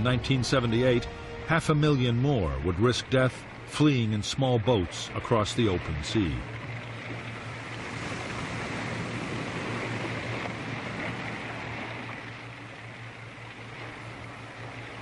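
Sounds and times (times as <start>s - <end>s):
low hum: 0.0s - 15.0s
sea and surf rushing: 0.0s - 15.0s.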